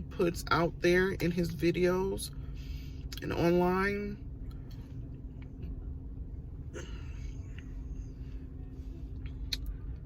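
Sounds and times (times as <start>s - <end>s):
constant hum: 0.0s - 10.0s
low steady rumble: 0.0s - 10.0s.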